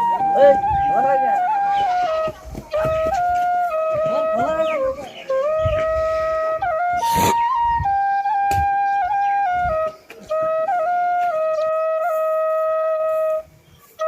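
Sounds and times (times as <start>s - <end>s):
flute playing slow melody: 0.0s - 14.0s.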